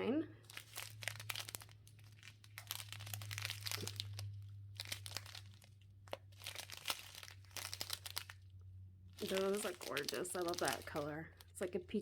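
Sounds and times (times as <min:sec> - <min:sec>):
plastic packets crinkling: 0:00.4 - 0:12.0.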